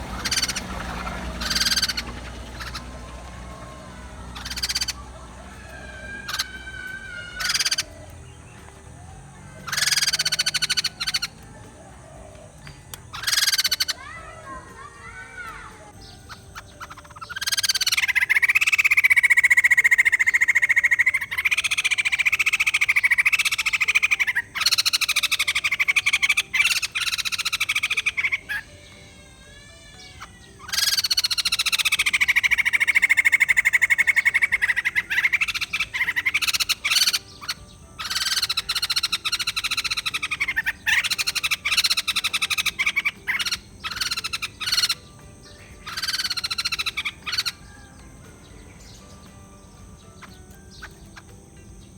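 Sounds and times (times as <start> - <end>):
bird cackling laughter calls: 0.0 - 48.2.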